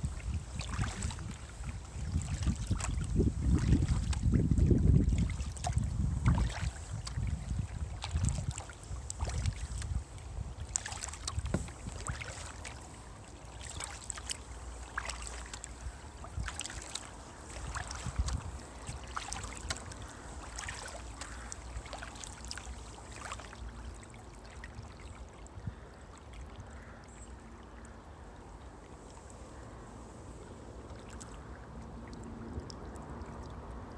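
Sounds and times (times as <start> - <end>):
kayak paddle splashes: 0.0 - 27.2, 28.8 - 33.7.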